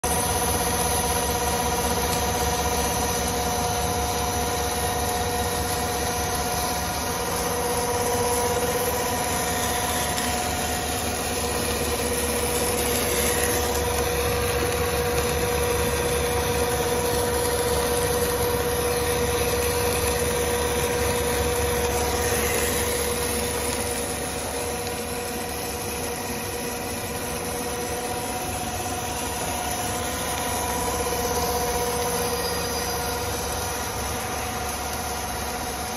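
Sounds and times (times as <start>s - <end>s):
whining motor tones: 0.0s - 35.9s
machine motors humming: 0.1s - 35.9s.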